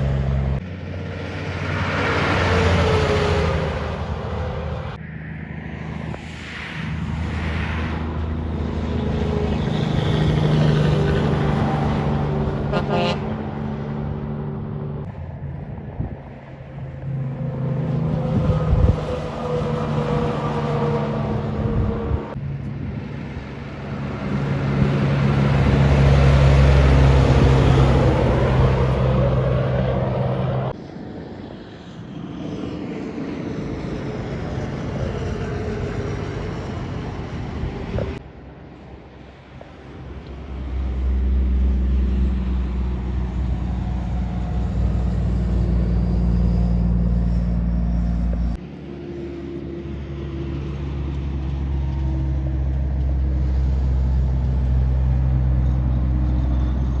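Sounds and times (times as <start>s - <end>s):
trucks driving past: 0.0s - 31.3s, 32.4s - 57.0s.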